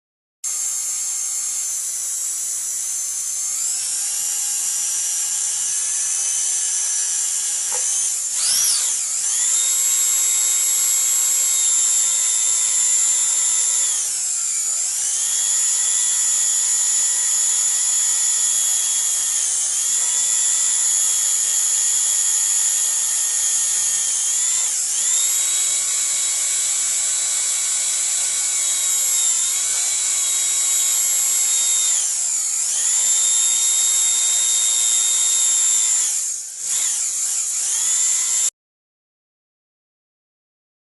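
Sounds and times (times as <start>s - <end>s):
dental drill whine: 0.5s - 38.5s.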